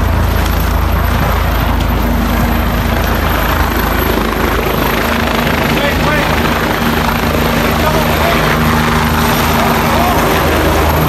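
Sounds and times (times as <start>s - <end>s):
helicopter rotor and engine: 0.0s - 11.0s
steady hum: 0.0s - 11.0s.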